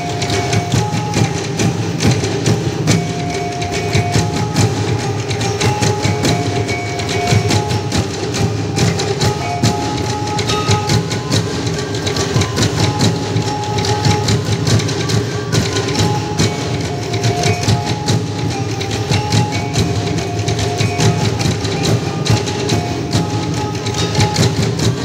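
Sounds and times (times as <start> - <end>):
folk dance music with percussion: 0.0 - 25.0.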